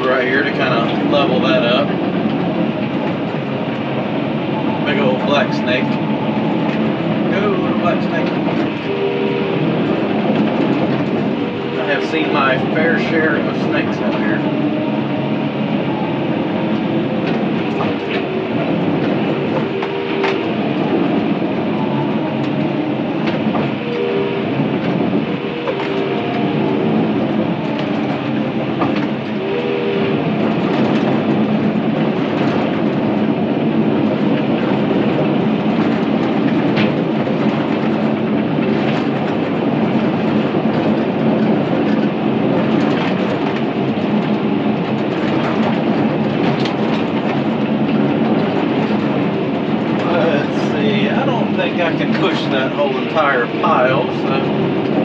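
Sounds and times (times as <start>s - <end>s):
diesel engine running: 0.0s - 55.0s
tracks clanking: 0.0s - 55.0s.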